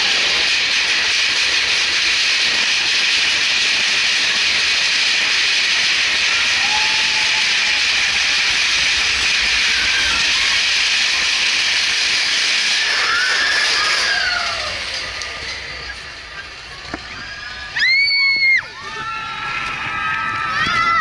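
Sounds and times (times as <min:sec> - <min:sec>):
roller coaster hissing rush: 0:00.0 - 0:21.0.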